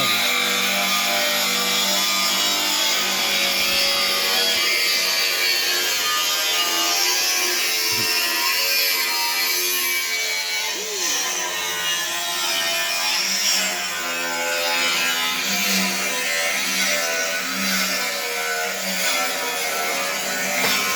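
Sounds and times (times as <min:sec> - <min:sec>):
power tool whirring: 0:00.0 - 0:14.2, 0:15.1 - 0:20.9.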